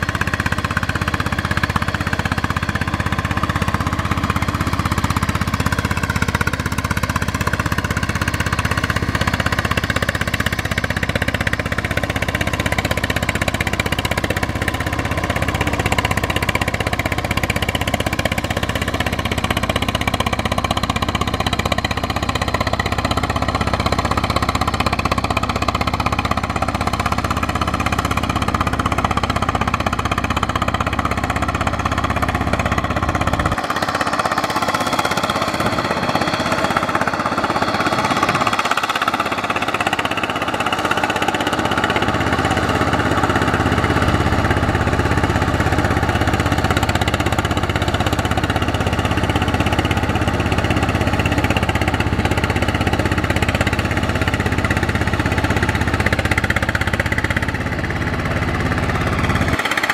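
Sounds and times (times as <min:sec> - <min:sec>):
diesel tractor engine chugging: 0:00.0 - 0:59.9
wheels churning through water: 0:00.0 - 0:59.9.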